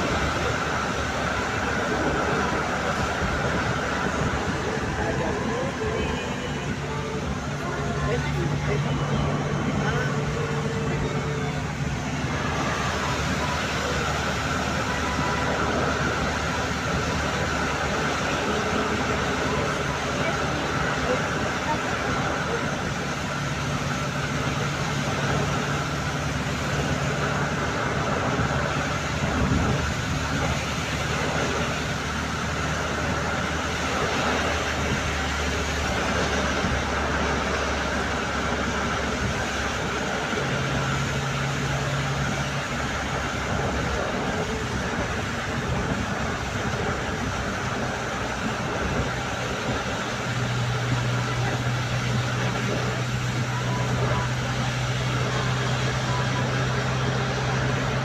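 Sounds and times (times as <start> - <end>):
continuous noise: 0.0 - 58.0
engine hum: 0.0 - 58.0.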